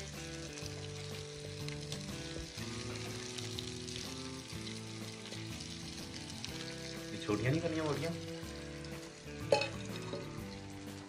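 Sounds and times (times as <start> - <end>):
background music of held notes: 0.0 - 11.0
food sizzling in hot oil: 0.0 - 11.0.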